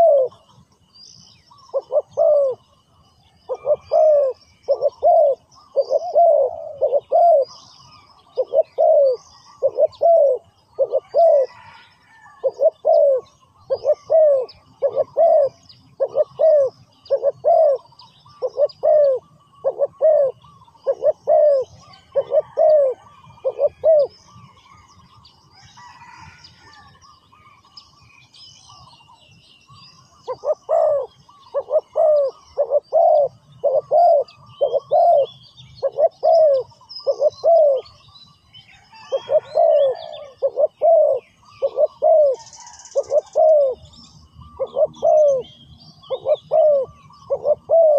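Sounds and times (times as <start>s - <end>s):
dove cooing: 0.0s - 0.6s, 1.6s - 2.7s, 3.5s - 24.8s, 30.1s - 38.1s, 38.9s - 47.9s
small birds chirping: 0.0s - 47.9s.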